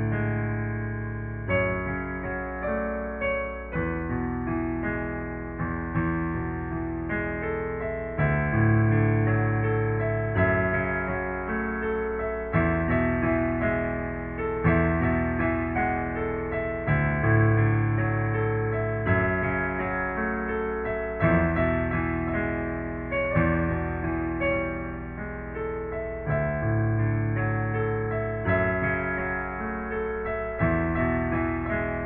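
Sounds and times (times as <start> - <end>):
solo piano slow chords: 0.0 - 32.0.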